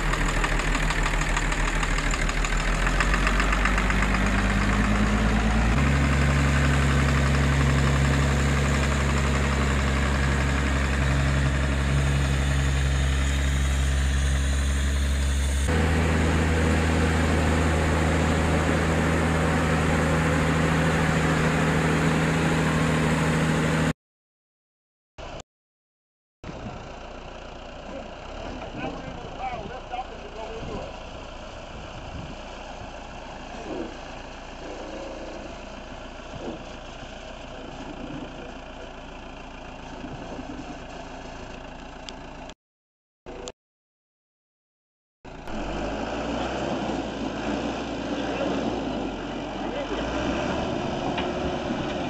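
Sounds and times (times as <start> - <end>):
tractor diesel engine running: 0.0 - 23.9, 26.4 - 42.6, 45.3 - 52.0.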